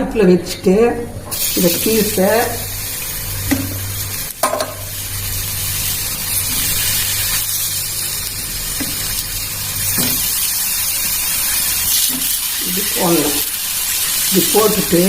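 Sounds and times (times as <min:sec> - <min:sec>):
fruit sizzling on a hot griddle: 0:01.3 - 0:15.0.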